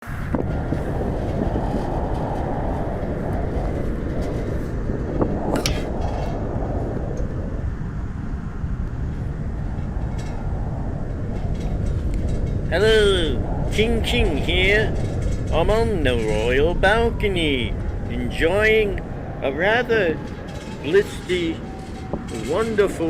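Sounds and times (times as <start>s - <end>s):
strong wind blowing: 0.0s - 23.0s.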